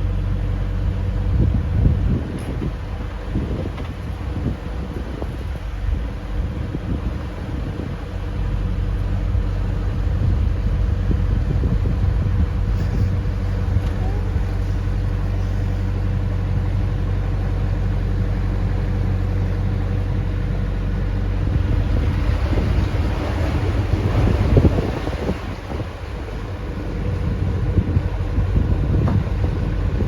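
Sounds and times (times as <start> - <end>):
diesel engine running: 0.0 - 30.0
wind buffeting microphone: 0.0 - 30.0.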